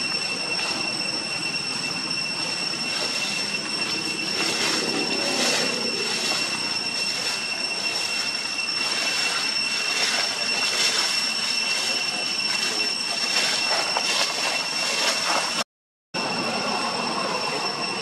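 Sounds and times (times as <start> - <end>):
insects droning: 0.0 - 15.6, 16.2 - 18.0.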